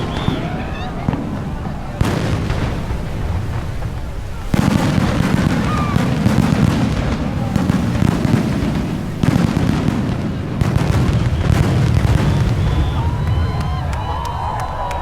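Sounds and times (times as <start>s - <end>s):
fireworks bursts and bangs: 0.0s - 15.0s.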